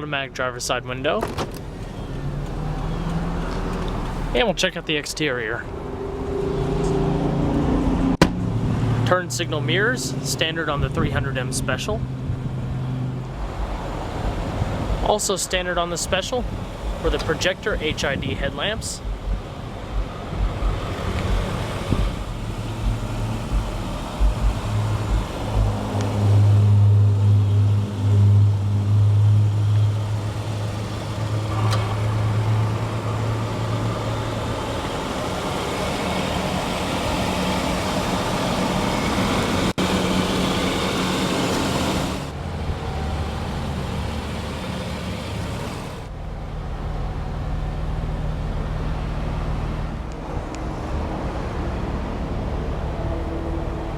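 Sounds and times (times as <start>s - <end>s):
car engine idling: 1.5s - 6.8s, 8.2s - 50.6s.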